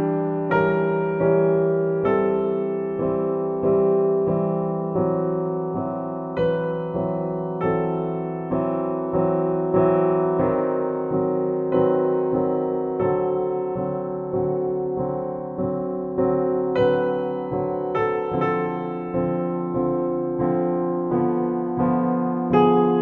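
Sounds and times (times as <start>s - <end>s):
slow soft piano chords: 0.0s - 23.0s.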